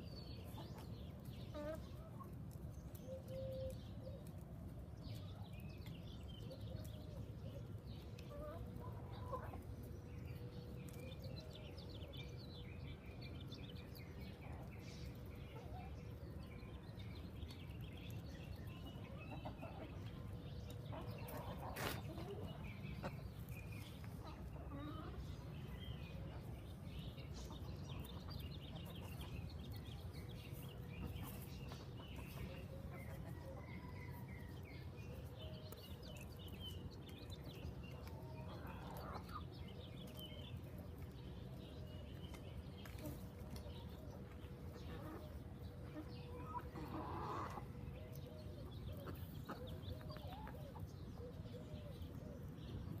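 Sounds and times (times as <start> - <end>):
birds chirping: 0.0 - 53.0
chickens clucking: 0.2 - 3.4, 5.1 - 11.3, 13.5 - 53.0.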